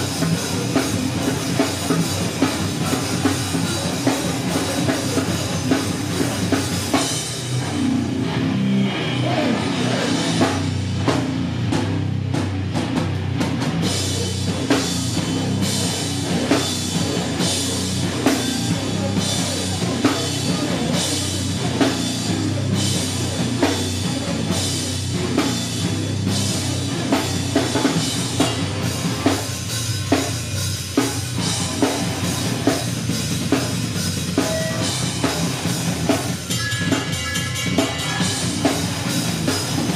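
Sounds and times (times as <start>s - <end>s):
pounding drums: 0.0s - 7.8s, 9.2s - 39.9s
live heavy rock band: 0.0s - 39.9s.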